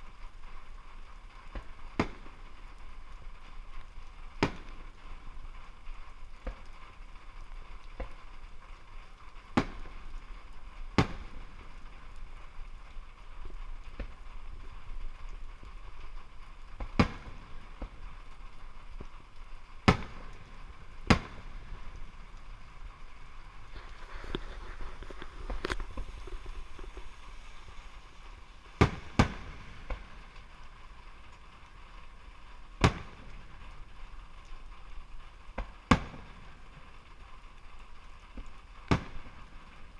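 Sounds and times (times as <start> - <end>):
faint hiss: 0.0 - 39.9
fireworks bangs: 1.2 - 39.9.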